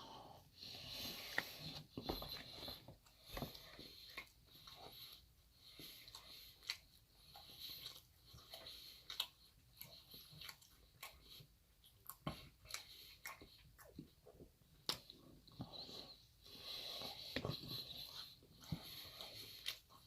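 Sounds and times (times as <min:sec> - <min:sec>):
person chewing: 0:00.7 - 0:20.0.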